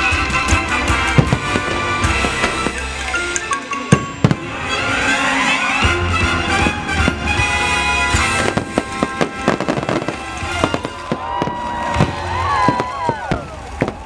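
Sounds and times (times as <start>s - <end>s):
fireworks bursting and crackling: 0.0s - 14.0s
show music: 0.0s - 14.0s.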